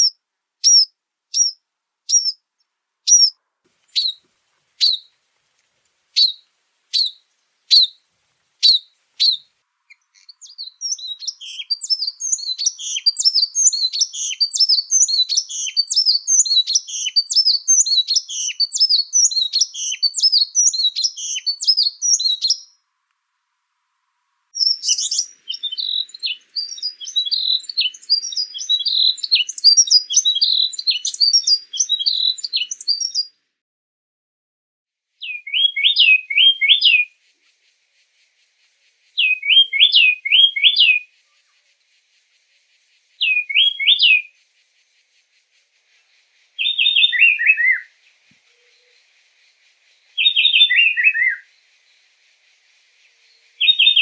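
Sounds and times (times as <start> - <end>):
wren calling and singing: 0.0 - 5.2, 6.2 - 22.8, 24.5 - 33.3, 35.2 - 54.0.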